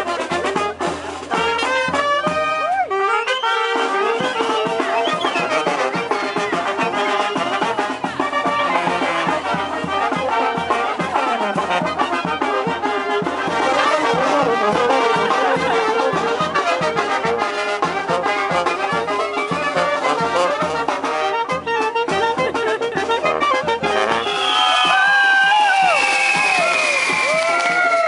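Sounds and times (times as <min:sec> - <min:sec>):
brass band playing: 0:00.0 - 0:27.8.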